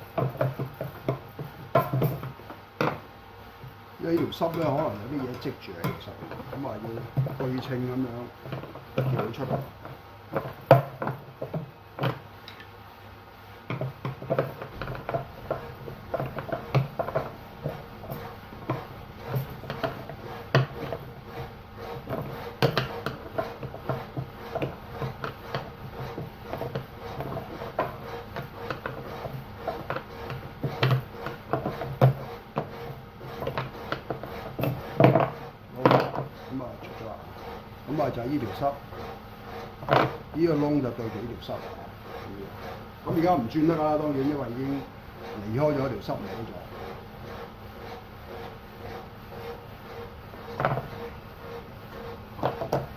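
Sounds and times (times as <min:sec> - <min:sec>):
tools knocking on metal shaft: 0:00.0 - 0:12.8, 0:13.6 - 0:49.6.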